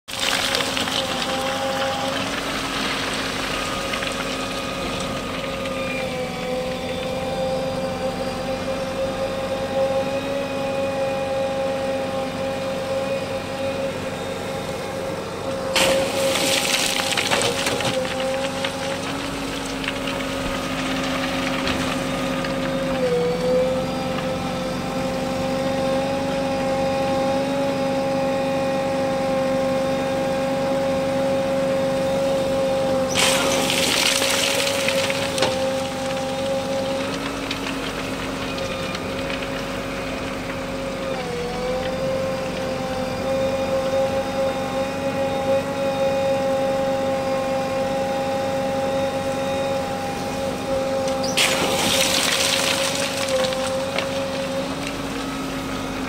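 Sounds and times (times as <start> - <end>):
backhoe engine hum and whine: 0.1 - 56.0.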